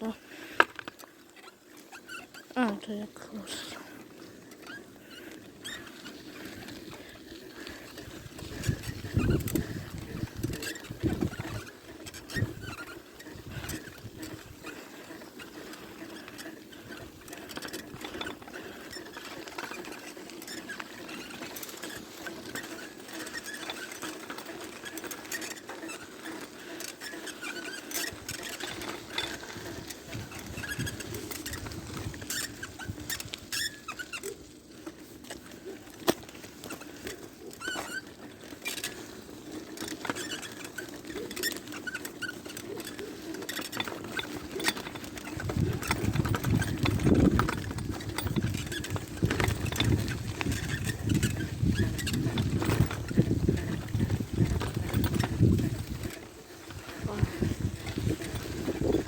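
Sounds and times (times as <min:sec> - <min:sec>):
bicycle rolling noise: 0:00.0 - 0:59.0
bicycle squeaking: 0:00.0 - 0:59.0.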